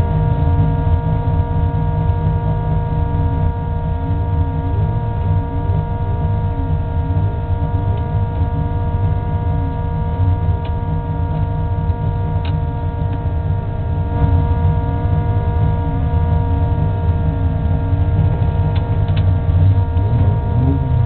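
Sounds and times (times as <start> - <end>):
race car engine idling: 0.0 - 21.0.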